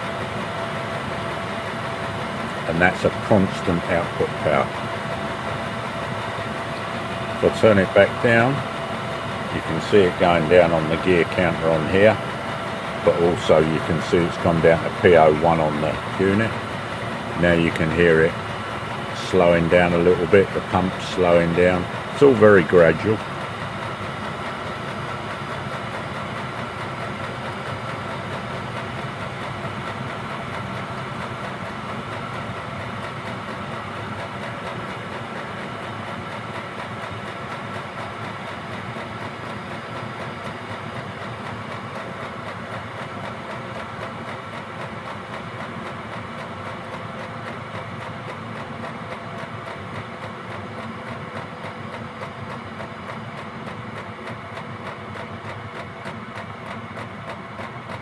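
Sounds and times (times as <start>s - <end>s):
fuel pump ticking: 0.0s - 58.0s.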